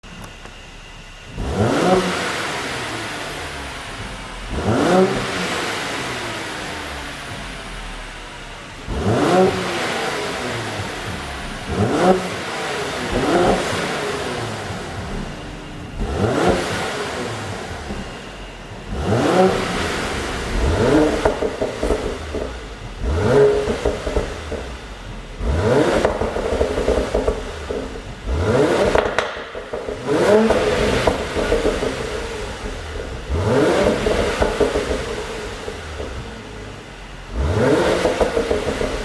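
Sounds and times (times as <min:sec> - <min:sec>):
exhaust pops and crackles: 0:00.0 - 0:02.5, 0:03.1 - 0:39.0
car engine revving: 0:00.0 - 0:39.0.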